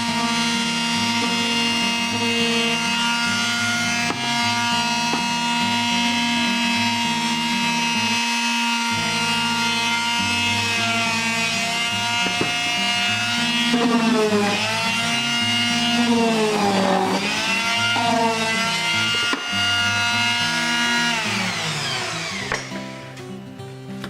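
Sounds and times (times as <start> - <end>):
electric palm sander whining: 0.0 - 23.4.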